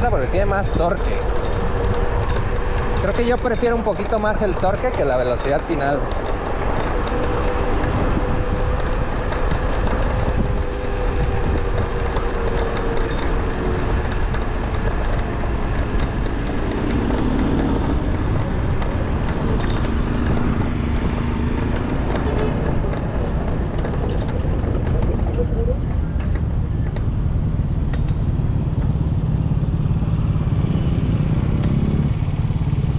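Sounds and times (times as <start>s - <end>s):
street traffic: 0.0s - 32.9s
wind rushing over microphone: 0.0s - 32.9s.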